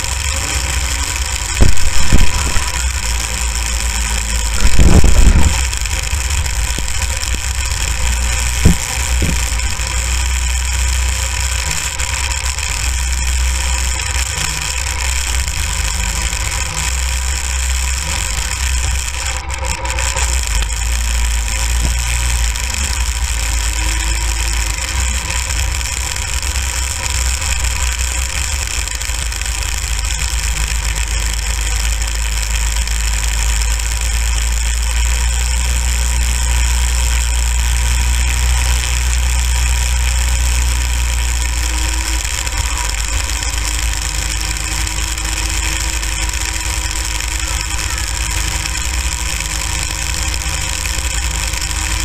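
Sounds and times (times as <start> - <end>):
go-kart engine running: 0.0 - 52.0.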